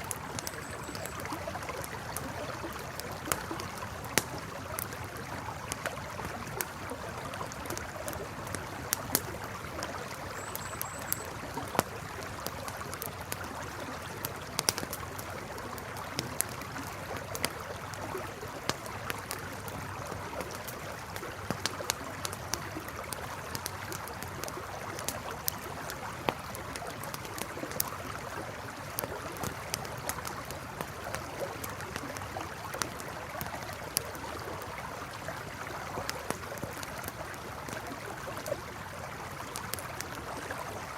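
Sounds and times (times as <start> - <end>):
campfire crackling: 0.0 - 40.9
river flowing: 0.0 - 40.9.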